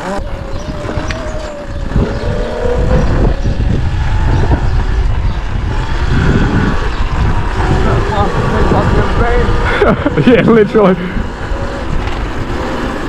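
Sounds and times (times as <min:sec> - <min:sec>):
electric motor whine: 0:00.0 - 0:13.0
wind rumbling over microphone: 0:00.0 - 0:13.0.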